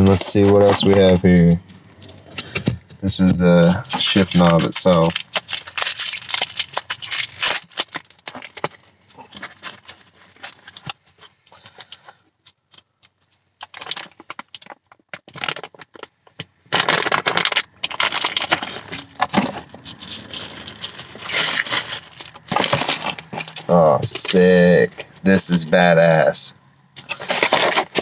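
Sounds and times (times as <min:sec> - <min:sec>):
packaging crinkling and rustling: 0:00.0 - 0:28.0.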